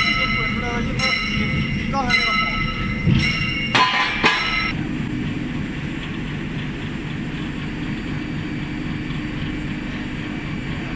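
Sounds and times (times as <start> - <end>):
rolling mill mechanical drone: 0.0 - 10.9.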